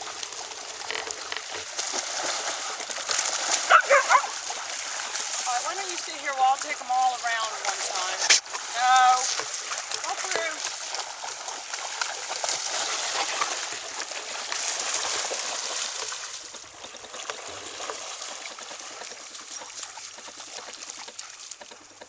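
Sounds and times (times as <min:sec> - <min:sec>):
dogs splashing through water: 0:00.0 - 0:22.0
water dripping: 0:00.0 - 0:22.0.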